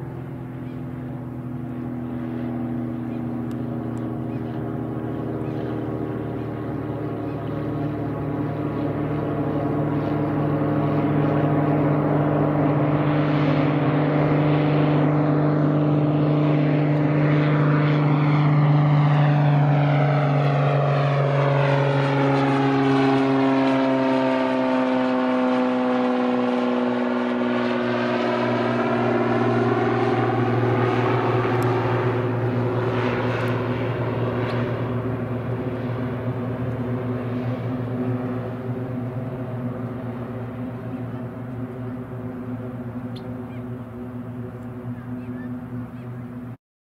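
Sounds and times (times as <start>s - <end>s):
propeller plane flying past: 0.0s - 46.6s.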